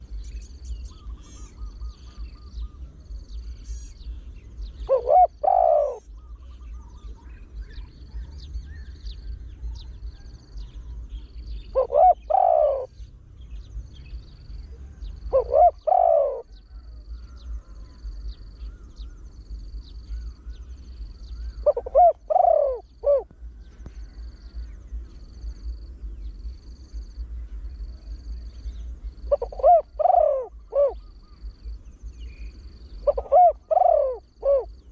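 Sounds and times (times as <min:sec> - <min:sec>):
dove cooing: 0:04.7 - 0:13.1, 0:14.2 - 0:25.8, 0:26.4 - 0:34.9.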